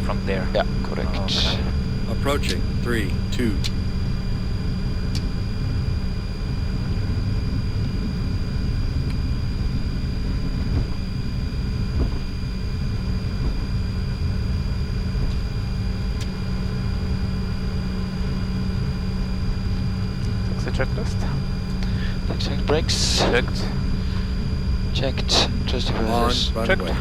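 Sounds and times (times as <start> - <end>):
aircraft rolling rumble: 0.0 - 27.0
cockpit hum: 0.0 - 27.0
thin high whine: 0.0 - 27.0.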